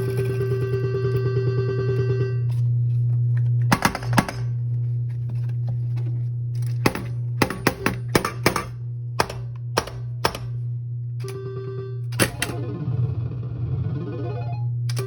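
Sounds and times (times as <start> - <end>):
pinball machine hum: 0.0 - 15.0.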